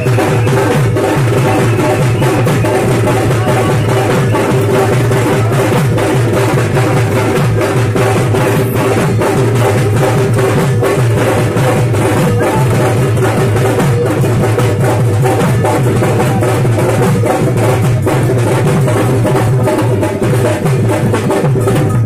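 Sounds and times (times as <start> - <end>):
loud fast drumming: 0.0 - 22.0.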